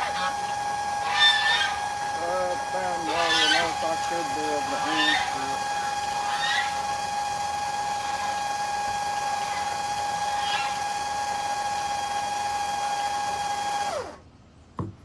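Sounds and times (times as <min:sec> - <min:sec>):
small electric motor whining: 0:00.0 - 0:14.2.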